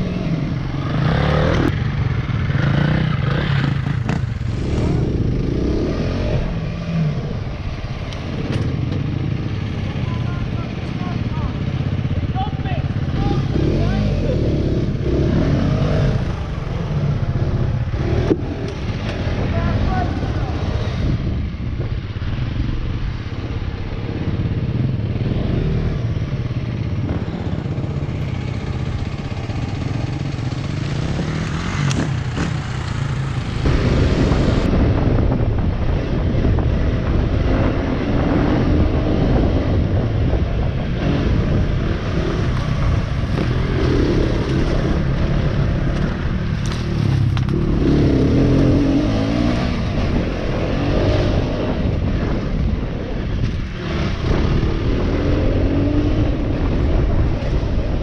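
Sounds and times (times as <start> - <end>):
off-road motorcycle engine: 0.0 - 58.0.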